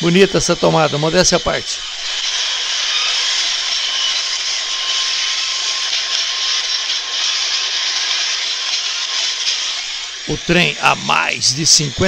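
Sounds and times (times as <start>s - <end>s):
drone propellers whirring: 0.0s - 12.0s.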